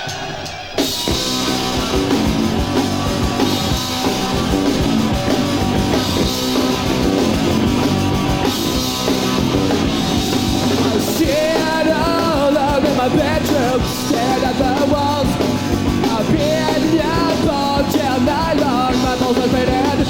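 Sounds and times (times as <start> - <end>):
distorted electric guitars: 0.0 - 20.0
drum kit: 0.0 - 20.0
punk rock band playing live: 0.0 - 20.0.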